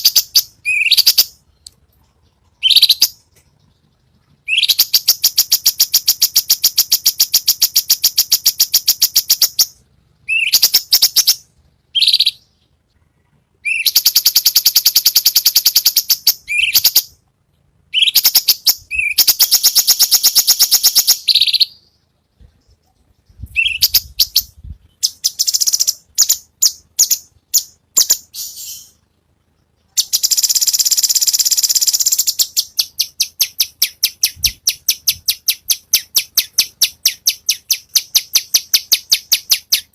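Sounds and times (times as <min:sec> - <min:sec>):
bird singing rapid rattling notes: 0:00.0 - 0:13.0, 0:13.6 - 0:17.2, 0:17.8 - 0:39.9.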